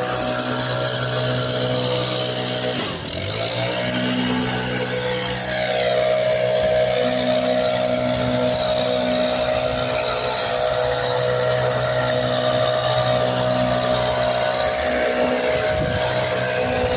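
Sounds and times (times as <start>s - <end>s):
wood chipper engine droning: 0.0s - 16.9s.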